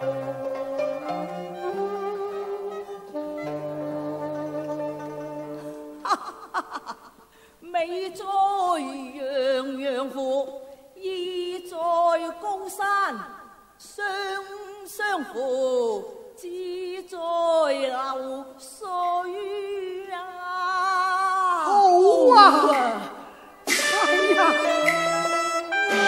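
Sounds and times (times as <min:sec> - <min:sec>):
opera singing with wavering notes: 0:00.0 - 0:26.0.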